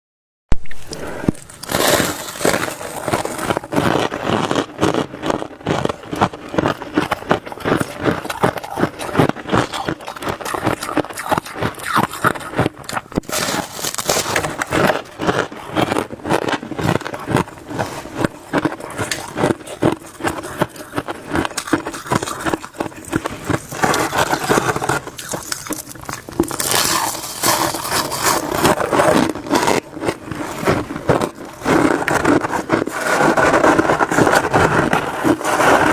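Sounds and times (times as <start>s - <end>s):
spoon scraping crunchy frost: 0.6s - 35.9s.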